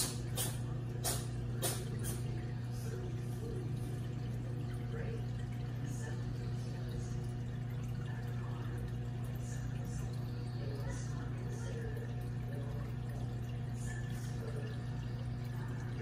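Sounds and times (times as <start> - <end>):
faint moving water: 0.0 - 16.0
pump hum: 0.0 - 16.0.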